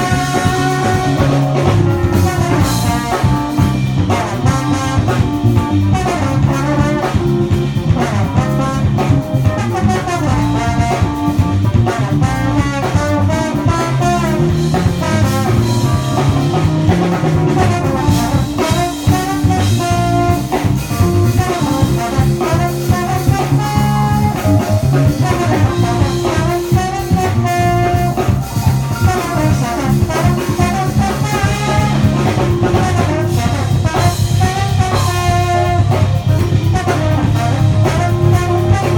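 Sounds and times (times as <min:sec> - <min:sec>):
bass line: 0:00.0 - 0:38.9
brass horns: 0:00.0 - 0:38.9
drum kit: 0:00.0 - 0:38.9.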